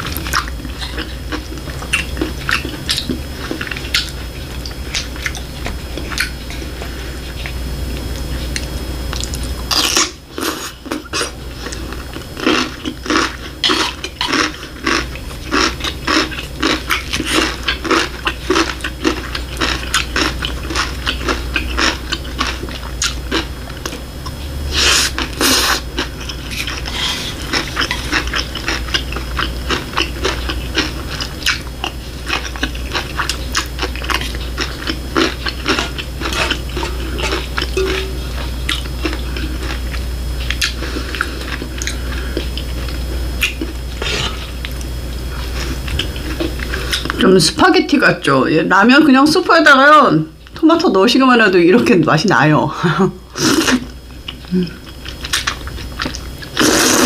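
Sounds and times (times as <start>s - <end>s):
low steady hum: 0.0s - 57.0s
wet chewing and mouth clicks: 0.1s - 47.2s, 53.5s - 57.0s.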